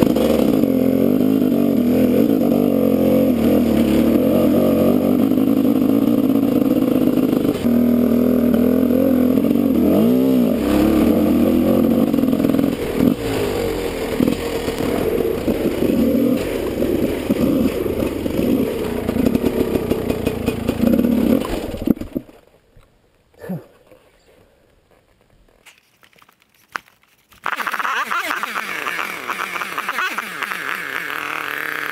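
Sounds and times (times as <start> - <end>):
dirt bike engine revving: 0.0 - 22.2, 27.5 - 31.9.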